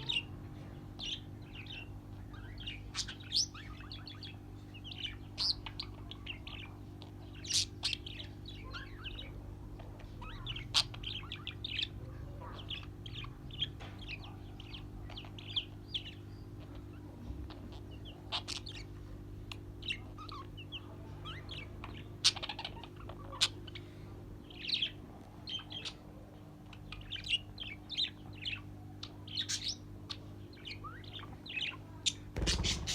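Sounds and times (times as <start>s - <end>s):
birds chirping: 0.0s - 32.9s
steady low hum: 0.0s - 32.9s.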